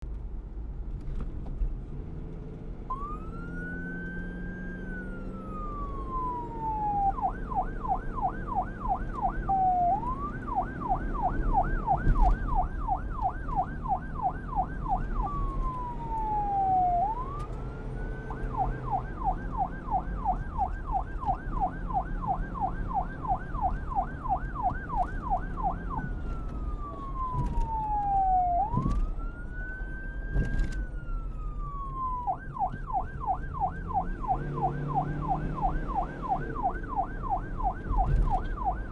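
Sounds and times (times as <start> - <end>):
low traffic rumble: 0.0 - 38.9
police siren wailing and yelping: 2.9 - 38.9.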